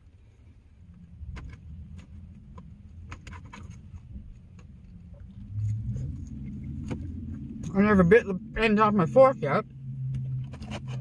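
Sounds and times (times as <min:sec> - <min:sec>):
low rumble inside van: 0:00.0 - 0:11.0.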